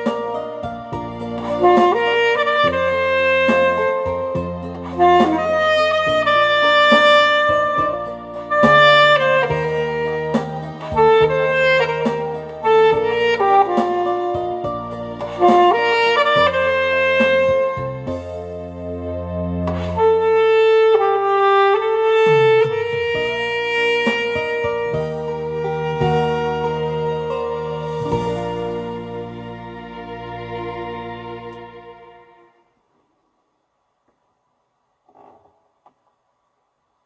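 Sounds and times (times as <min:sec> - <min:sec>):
backing track with bass and drums: 0:00.0 - 0:31.8
alto saxophone melody: 0:00.0 - 0:32.7.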